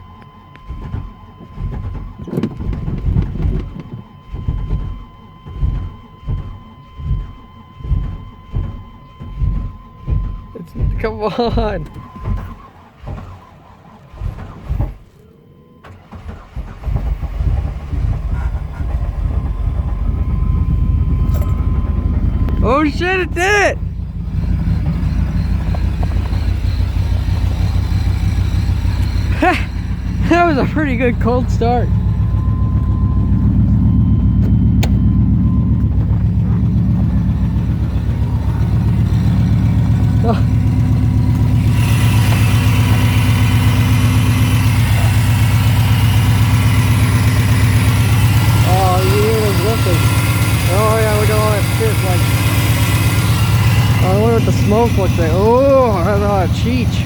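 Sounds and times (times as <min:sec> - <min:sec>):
engine sputtering and idling: 0:00.0 - 0:57.0.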